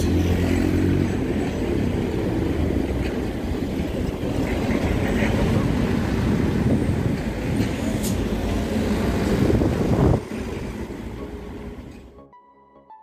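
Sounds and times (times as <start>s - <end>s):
minivan engine and tyre noise: 0.0s - 12.2s
road traffic passing: 0.0s - 12.3s.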